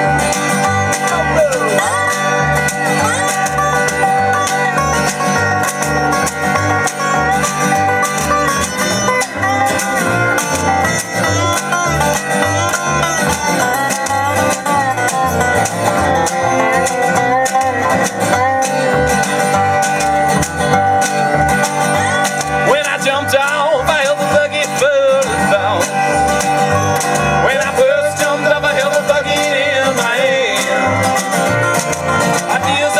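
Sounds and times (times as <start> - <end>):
country rock guitars: 0.0 - 32.9
pulsing bass line: 0.0 - 32.9.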